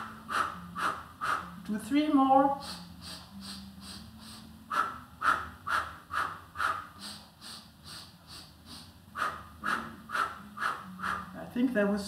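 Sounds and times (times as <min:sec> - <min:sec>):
woman breathing forcefully: 0:00.0 - 0:01.7, 0:02.6 - 0:11.4.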